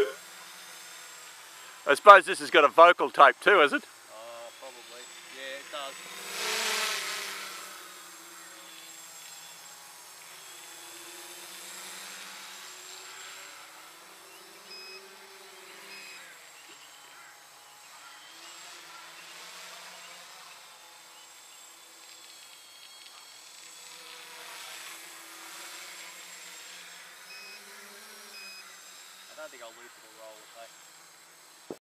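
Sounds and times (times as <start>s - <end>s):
drone propellers buzzing: 0.0s - 31.8s.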